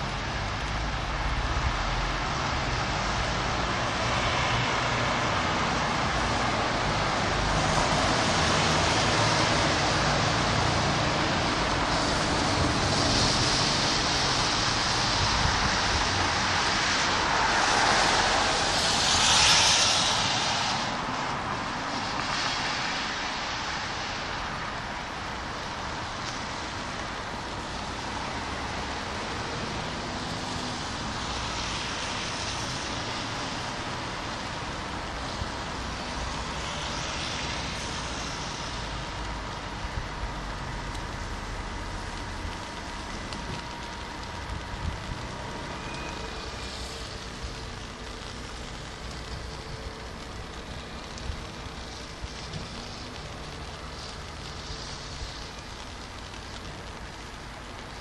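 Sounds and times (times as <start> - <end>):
distant traffic: 0.0 - 58.0
rain hiss: 0.0 - 58.0
tyres hissing on wet road: 0.0 - 58.0.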